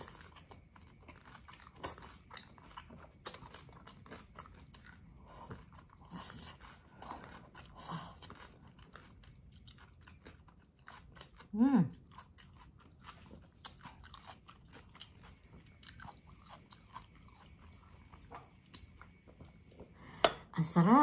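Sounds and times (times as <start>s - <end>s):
person chewing rice: 0.0s - 20.2s.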